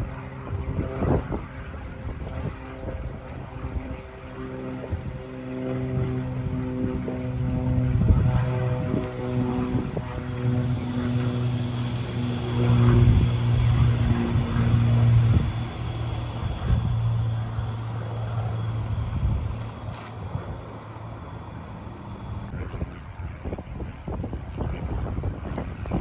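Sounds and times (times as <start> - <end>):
propeller aircraft engine droning: 0.0 - 26.0
wind buffeting microphone: 0.0 - 26.0.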